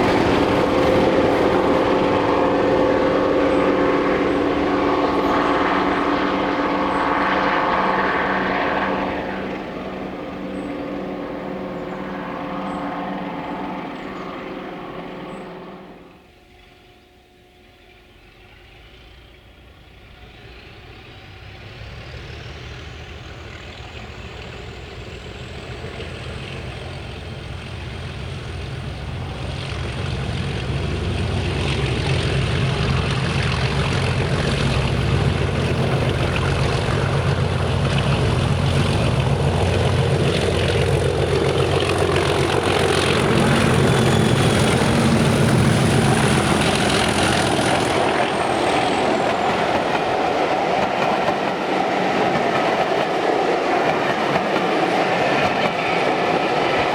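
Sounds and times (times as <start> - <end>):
diesel locomotive engine: 0.0 - 56.9.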